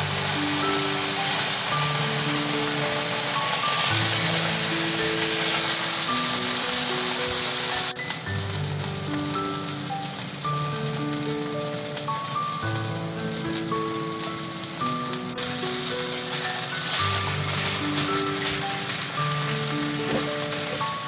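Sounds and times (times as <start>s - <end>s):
background music with held notes: 0.0s - 21.0s
meat sizzling in a frying pan: 0.0s - 21.0s.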